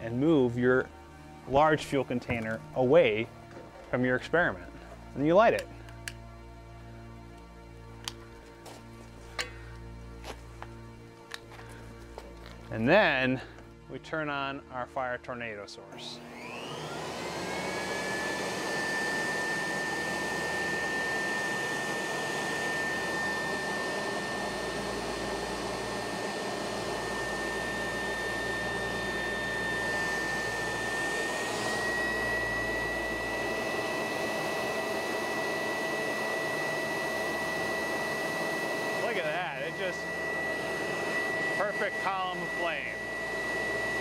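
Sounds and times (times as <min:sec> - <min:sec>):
leaf blower whining: 0:00.0 - 0:06.2, 0:07.2 - 0:13.7, 0:15.9 - 0:44.0.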